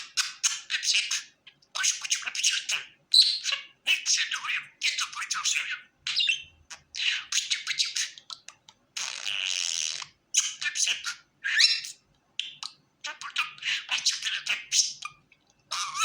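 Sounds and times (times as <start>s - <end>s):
budgerigar chattering: 0.0s - 16.0s.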